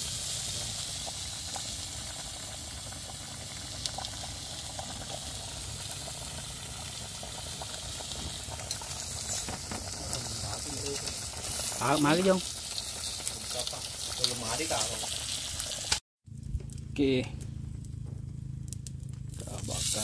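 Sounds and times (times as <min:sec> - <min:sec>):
fish sizzling on grill: 0:00.0 - 0:16.0, 0:18.6 - 0:20.0
rice boiling and bubbling: 0:00.0 - 0:20.0.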